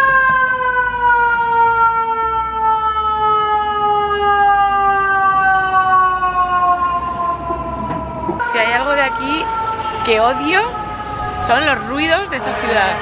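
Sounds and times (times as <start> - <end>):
fire engine siren wailing: 0.0 - 13.0.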